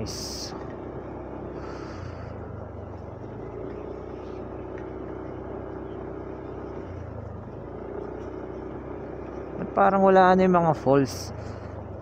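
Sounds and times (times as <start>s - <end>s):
road and wind noise: 0.0s - 12.0s
scooter engine running: 0.0s - 12.0s.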